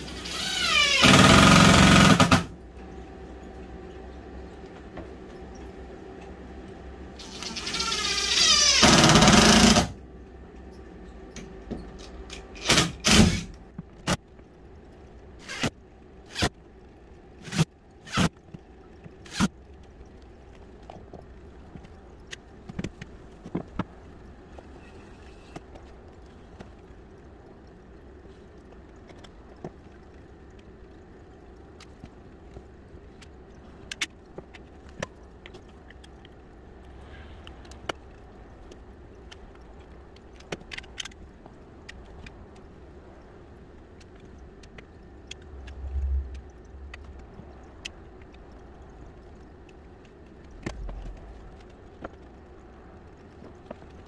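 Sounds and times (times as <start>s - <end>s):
steady low hum: 8.8s - 54.0s.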